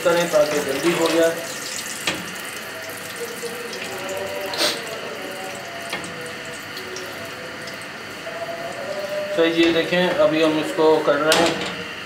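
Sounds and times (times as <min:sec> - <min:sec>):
sizzling in hot oil: 0:00.0 - 0:10.2.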